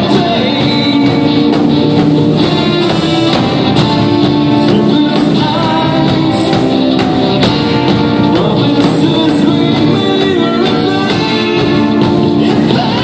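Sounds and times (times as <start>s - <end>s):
drum kit beat: 0.0s - 13.0s
electric guitar: 0.0s - 13.0s
rock band playing live: 0.0s - 13.0s.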